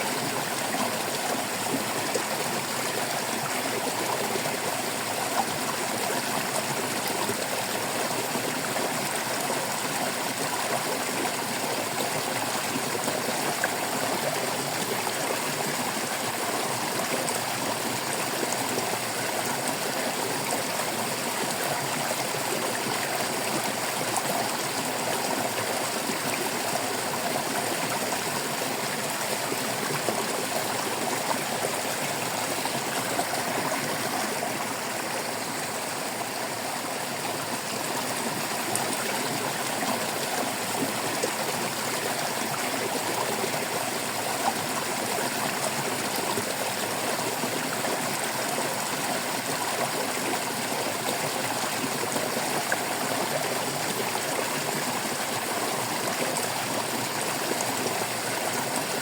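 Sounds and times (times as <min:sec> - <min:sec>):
stream water burbling: 0:00.0 - 0:59.0.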